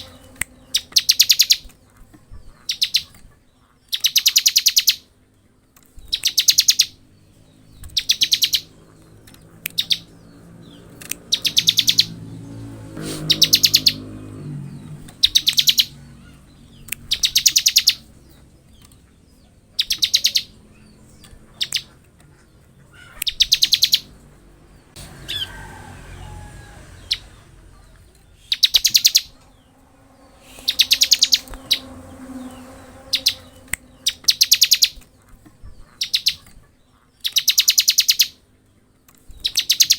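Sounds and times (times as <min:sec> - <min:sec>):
bird singing rattling trills: 0:00.0 - 0:05.1, 0:05.8 - 0:24.2, 0:26.9 - 0:38.4, 0:39.3 - 0:39.9.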